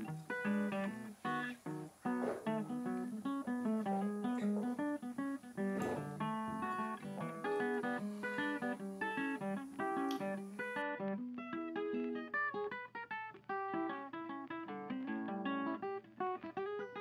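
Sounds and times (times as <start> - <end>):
acoustic guitar plucking melody: 0.0 - 17.0.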